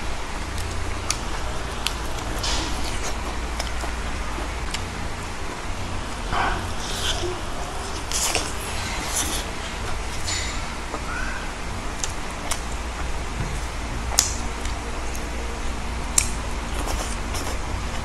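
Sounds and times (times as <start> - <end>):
steady low hum: 0.0 - 18.0
chewing and lip smacks: 0.4 - 18.0.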